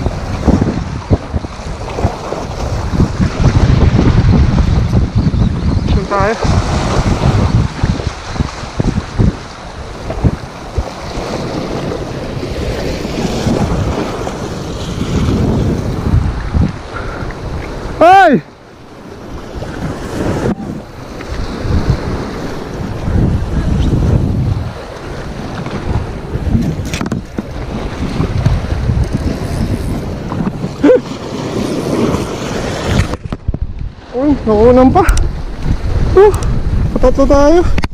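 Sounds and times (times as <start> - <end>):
waves washing over rocks: 0.0 - 5.2, 5.9 - 37.9
wind buffeting microphone: 0.0 - 37.9.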